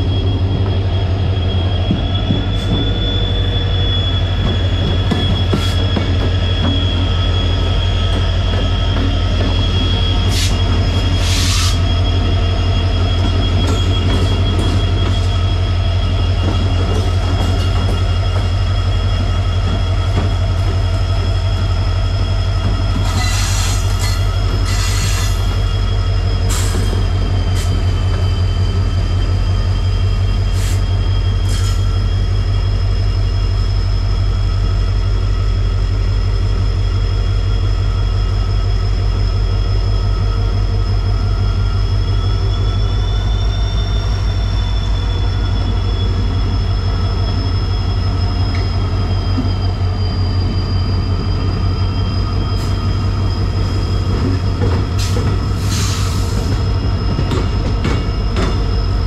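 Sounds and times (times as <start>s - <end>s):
high squeal: 0.0s - 59.0s
train low rumble: 0.0s - 59.0s.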